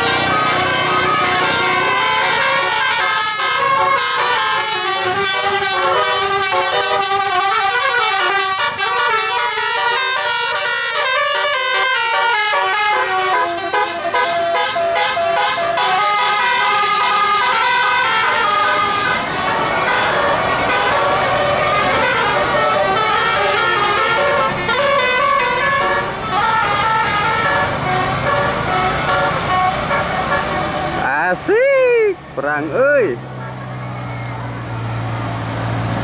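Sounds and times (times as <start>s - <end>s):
musical bus air horns: 0.0s - 31.5s.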